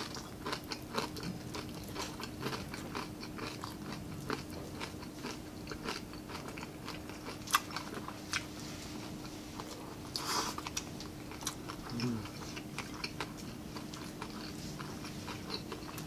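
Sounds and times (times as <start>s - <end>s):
chewing crispy fried pork: 0.0s - 16.0s
faint steady hum: 0.0s - 16.0s.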